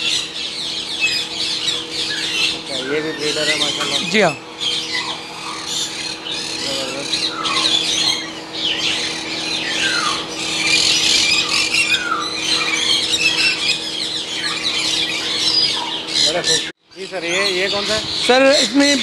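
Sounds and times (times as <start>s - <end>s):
parrots squawking: 0.0s - 19.0s.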